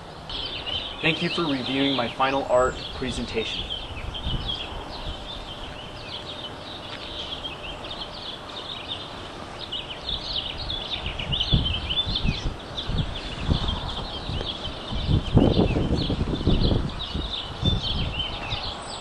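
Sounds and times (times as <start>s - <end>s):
small birds chirping: 0.3s - 19.0s.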